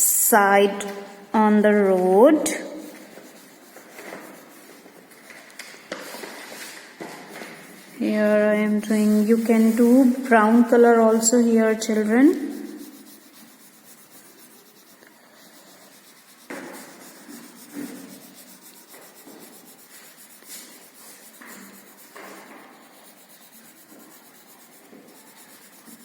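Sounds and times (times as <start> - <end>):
colour scratching on paper: 1.6 - 26.0.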